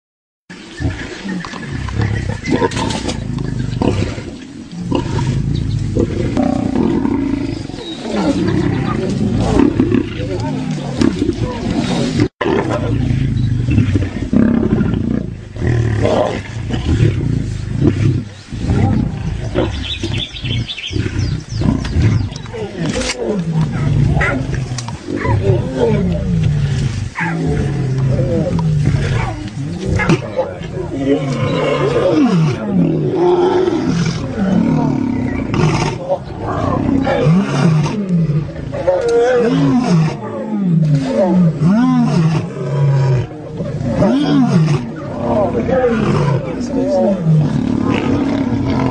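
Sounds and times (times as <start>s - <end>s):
lions growling: 0.8s - 48.9s.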